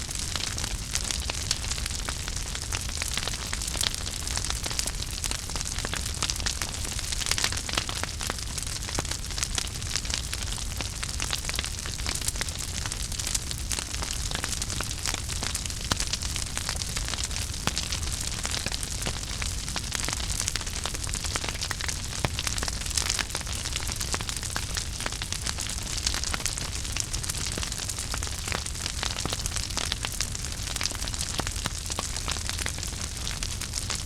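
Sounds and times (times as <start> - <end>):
low rumble and hiss of fire: 0.0 - 34.0
wood fire crackling and popping: 0.0 - 34.0.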